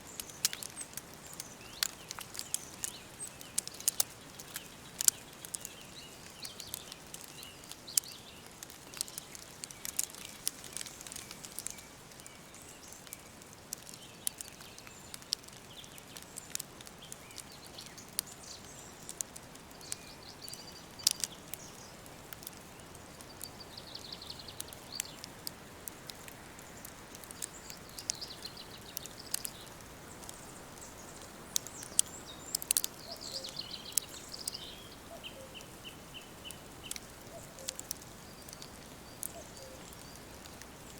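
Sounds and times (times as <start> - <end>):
birds chirping: 0.0 - 40.9
wood fire crackling: 0.0 - 40.9
fire pops: 0.1 - 23.8, 24.4 - 40.9.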